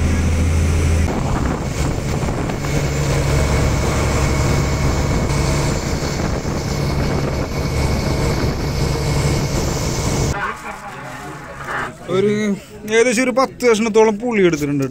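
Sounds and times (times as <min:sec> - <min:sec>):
water noise: 0:00.0 - 0:12.1
boat engine droning: 0:00.0 - 0:12.2
wind: 0:00.0 - 0:14.9.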